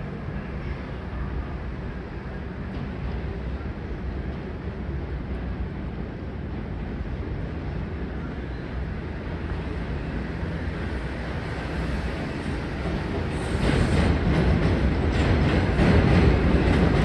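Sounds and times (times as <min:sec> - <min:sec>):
subway train rumbling on track: 0:00.0 - 0:17.0.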